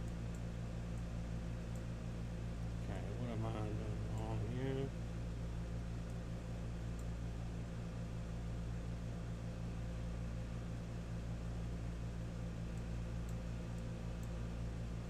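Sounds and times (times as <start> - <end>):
room hum and hiss: 0.0 - 15.0.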